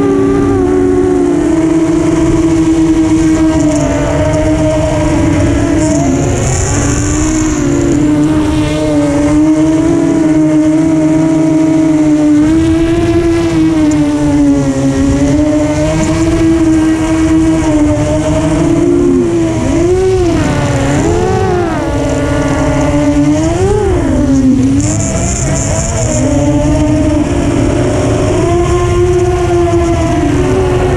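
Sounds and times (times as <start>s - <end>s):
quadcopter motors whining: 0.0s - 30.9s.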